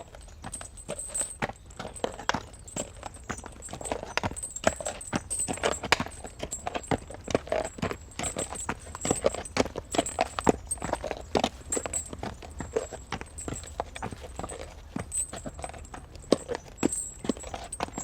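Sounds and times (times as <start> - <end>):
hooves clip-clopping: 0.0 - 18.0.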